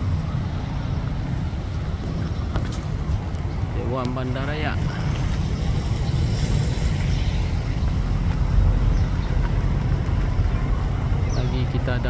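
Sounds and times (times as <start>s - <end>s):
faint street noise: 0.0s - 12.0s
wind buffeting microphone: 0.0s - 12.0s.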